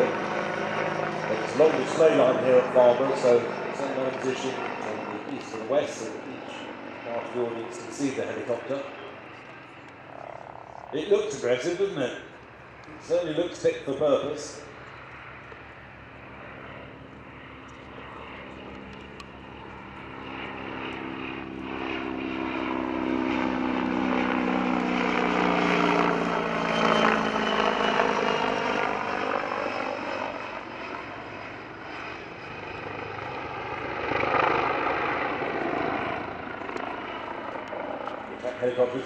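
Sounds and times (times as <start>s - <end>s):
helicopter engine whine: 0.0s - 39.0s
helicopter rotor beating: 0.0s - 39.0s.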